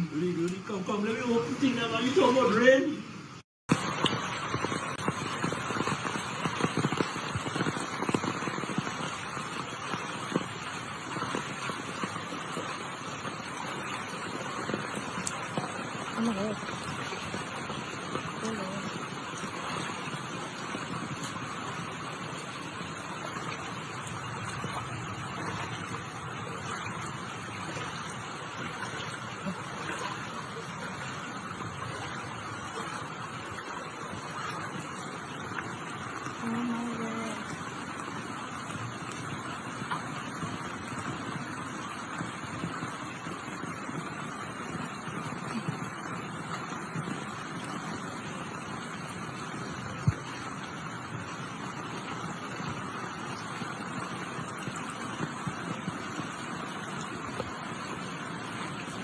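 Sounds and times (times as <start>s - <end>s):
floodwater flowing: 0.0s - 59.0s
heavy rain hiss: 0.0s - 59.0s.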